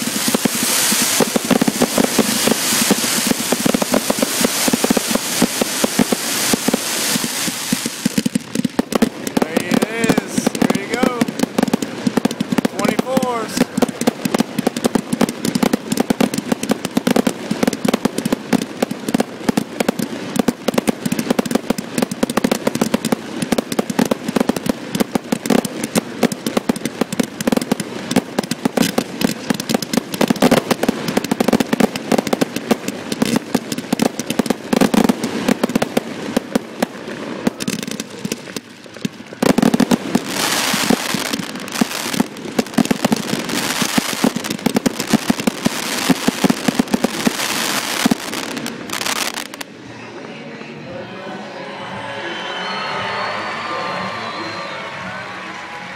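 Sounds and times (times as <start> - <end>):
hissing crackle: 0.0 - 49.7
fireworks bursting: 0.0 - 50.4.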